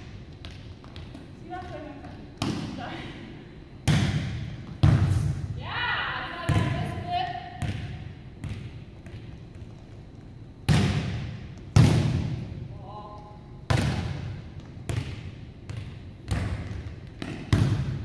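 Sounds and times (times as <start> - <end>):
volleyball bouncing on wooden floor: 0.0 - 2.9, 3.8 - 5.3, 6.4 - 18.0.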